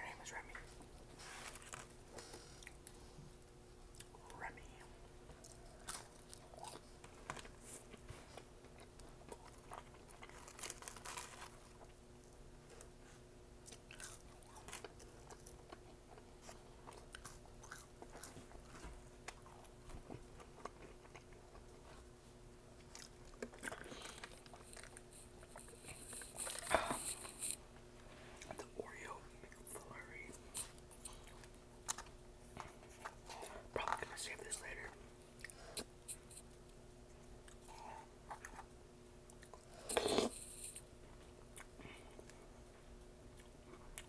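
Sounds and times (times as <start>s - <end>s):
close-up chewing and crunching: 5.2s - 27.6s, 29.4s - 44.0s.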